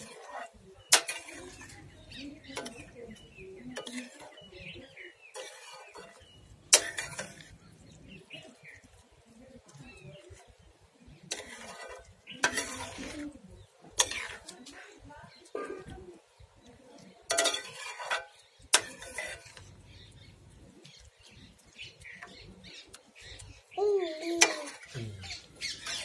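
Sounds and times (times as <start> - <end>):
spoon stirring and scraping bowl: 0.0 - 23.7, 24.4 - 26.0.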